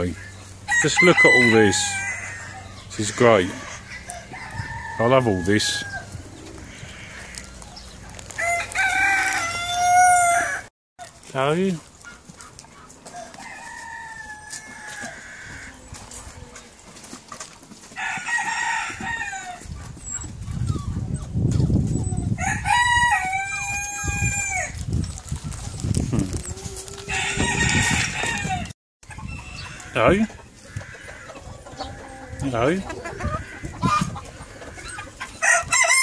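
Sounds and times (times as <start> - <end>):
roosters crowing: 0.0 - 10.7, 12.0 - 21.0, 21.9 - 36.0.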